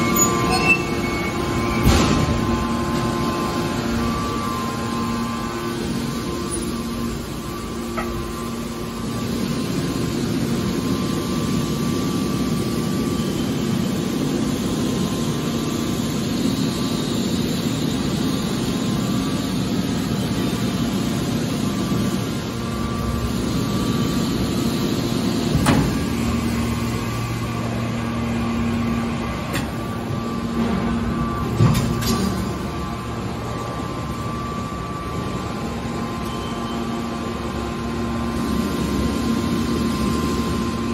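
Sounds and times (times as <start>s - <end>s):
hydraulic power unit humming: 0.0s - 40.9s.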